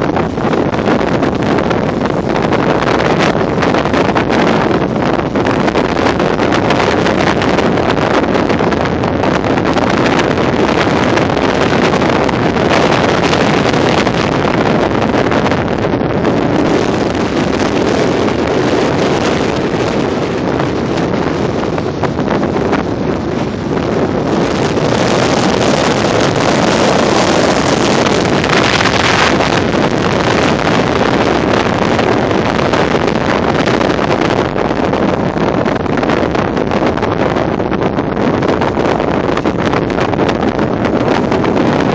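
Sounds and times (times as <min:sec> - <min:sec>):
strong wind buffeting microphone: 0:00.0 - 0:41.9.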